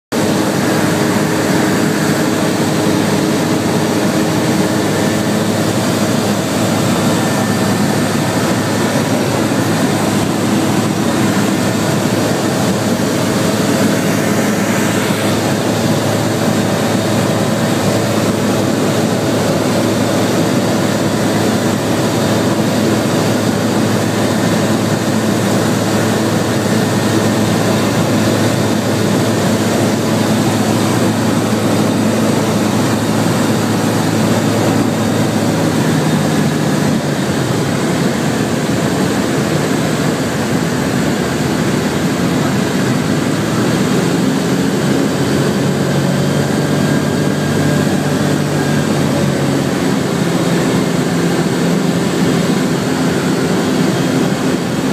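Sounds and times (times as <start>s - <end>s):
aircraft engine and propeller: 0.0s - 54.9s.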